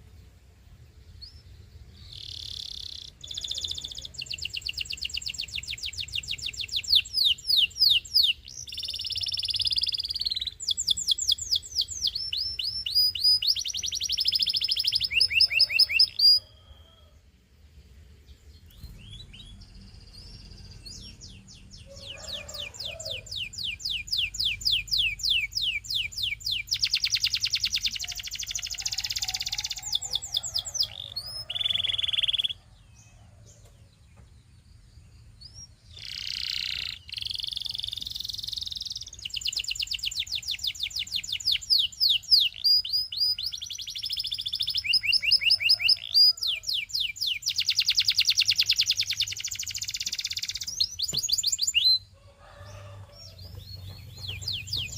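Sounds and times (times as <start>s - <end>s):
canary singing trills: 1.0s - 17.2s, 18.4s - 54.9s.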